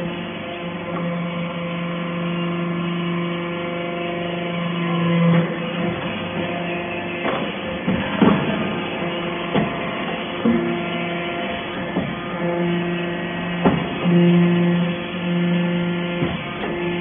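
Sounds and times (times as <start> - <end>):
hydraulic unit humming: 0.0 - 17.0.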